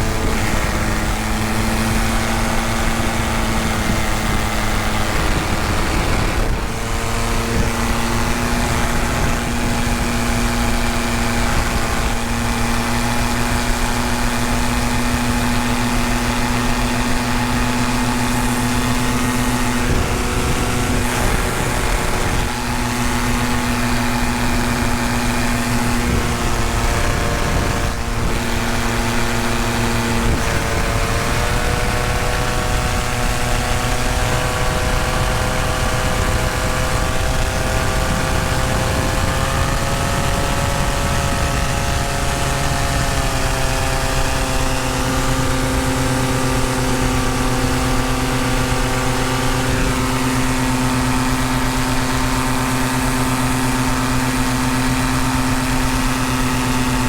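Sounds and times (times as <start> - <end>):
paramotor engine drone: 0.0 - 57.0.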